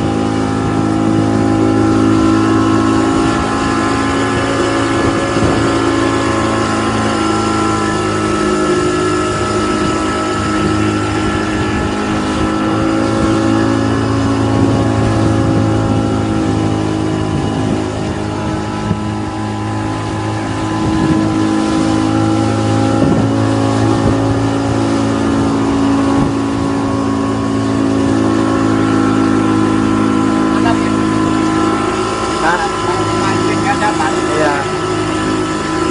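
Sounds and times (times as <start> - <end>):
boat engine running: 0.0 - 35.9.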